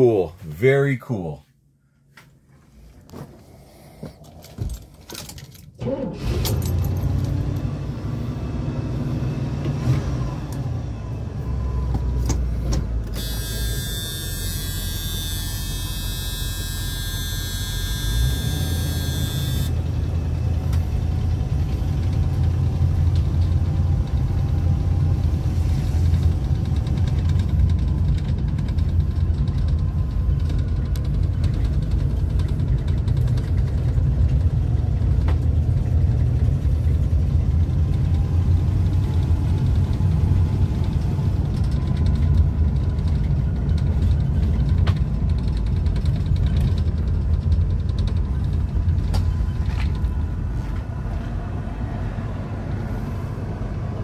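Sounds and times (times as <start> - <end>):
engine starting and rumbling: 3.1 - 54.0.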